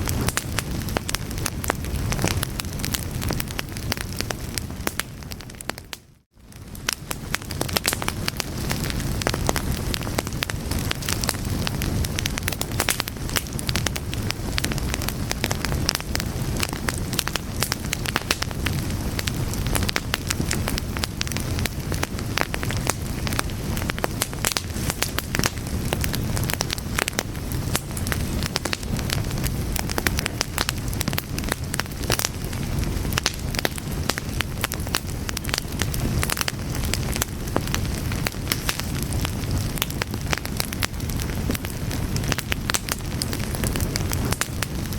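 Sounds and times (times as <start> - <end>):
low fire rumble: 0.0 - 44.9
wood fire crackling and popping: 0.0 - 44.9.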